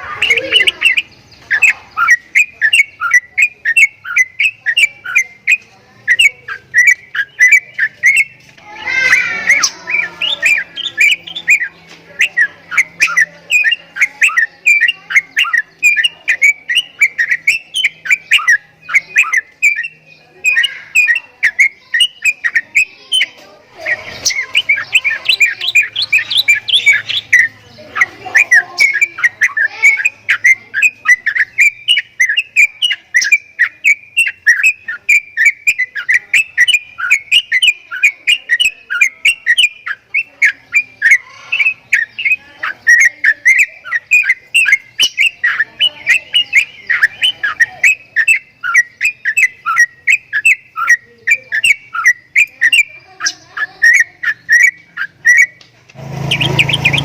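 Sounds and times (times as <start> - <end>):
bird whistled chirps: 0.0 - 55.6, 56.2 - 57.0.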